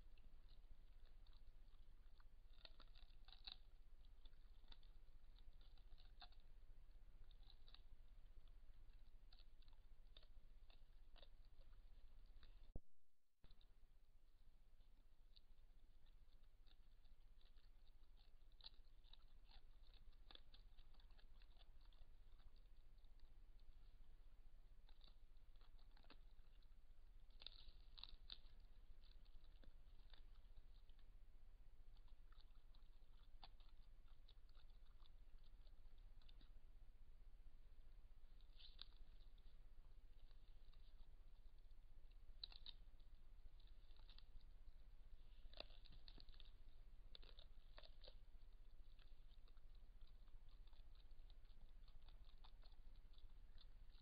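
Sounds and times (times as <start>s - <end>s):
bear clicks and crunches: 0.0s - 13.8s, 14.8s - 54.0s
steady low hum: 0.0s - 54.0s.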